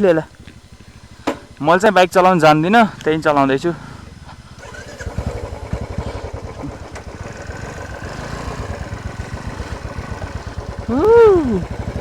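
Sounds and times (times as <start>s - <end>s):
motorcycle engine thumping: 0.0s - 12.0s.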